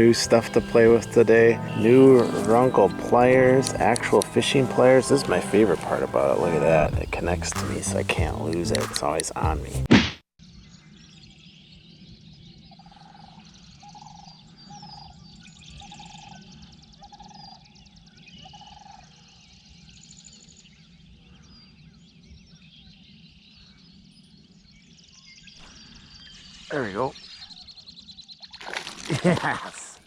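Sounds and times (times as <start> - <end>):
birds chirping and trilling: 0.0 - 9.6, 10.5 - 28.8.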